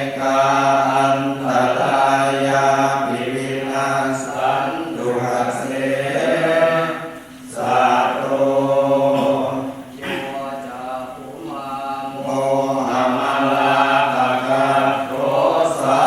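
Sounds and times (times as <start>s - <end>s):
group chanting in unison: 0.0s - 16.0s.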